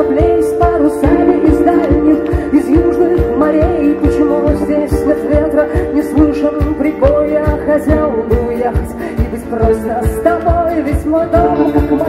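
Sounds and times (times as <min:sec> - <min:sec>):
live rock band playing: 0:00.0 - 0:12.0
woman singing: 0:00.0 - 0:12.0.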